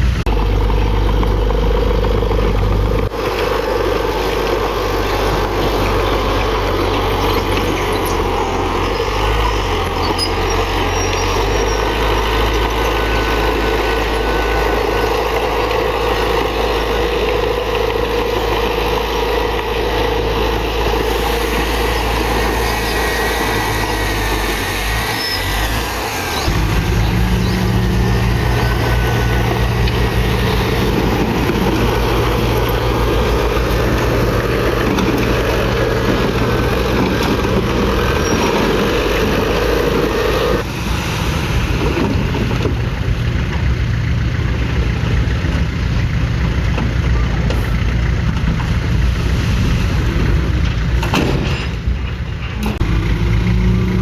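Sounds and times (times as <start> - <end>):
deeper louder engine: 0.0 - 54.0
heavy machinery diesel engines: 0.0 - 54.0.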